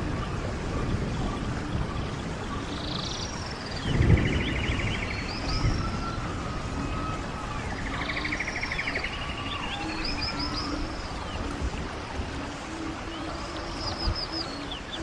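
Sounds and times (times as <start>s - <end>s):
songbirds singing: 0.0s - 15.0s
stream water rushing: 0.0s - 15.0s.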